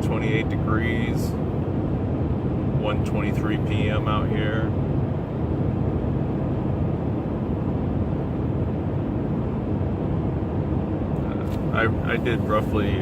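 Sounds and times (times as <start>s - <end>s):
pickup truck road and engine noise: 0.0s - 13.0s.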